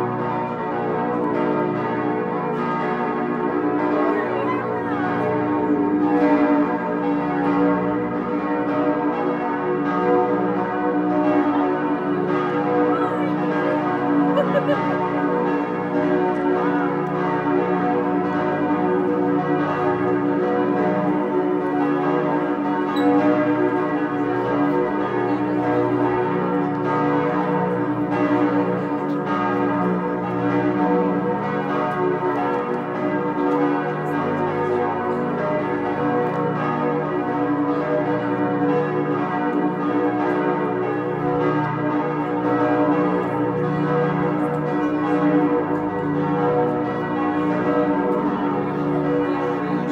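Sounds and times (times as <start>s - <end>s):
church bells pealing: 0.0s - 49.9s.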